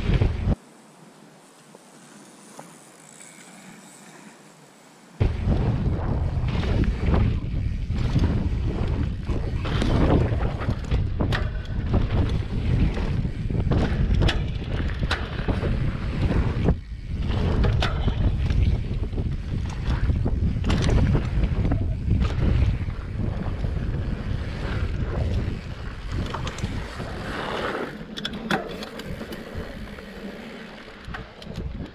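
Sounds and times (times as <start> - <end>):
wind buffeting microphone: 0.0 - 0.6, 5.2 - 31.9
tyres rumbling on dirt trail: 0.0 - 31.9
bike knocks and rattles: 5.2 - 31.9.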